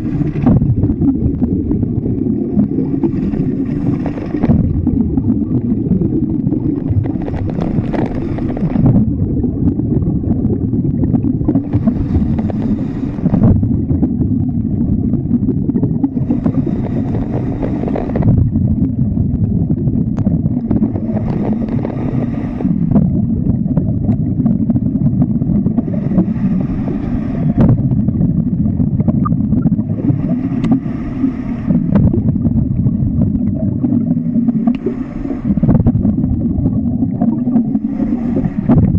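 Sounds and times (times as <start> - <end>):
bubbles hissing: 0.0 - 38.9
low underwater rumble: 0.0 - 38.9.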